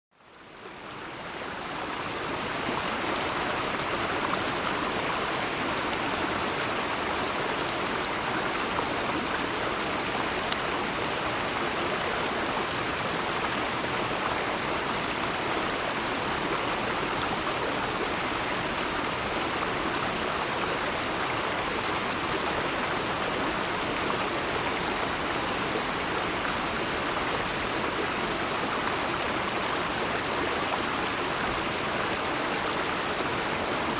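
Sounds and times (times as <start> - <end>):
running water rushing: 0.3 - 33.9.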